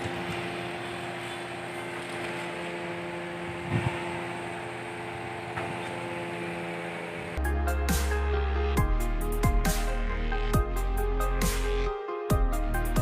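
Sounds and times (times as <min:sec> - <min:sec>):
hydraulic crane engine drone: 0:00.0 - 0:11.9.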